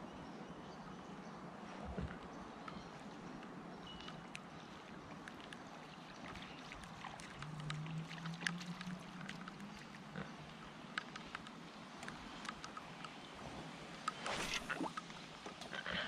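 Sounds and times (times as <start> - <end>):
light rain on water: 2.1 - 16.0.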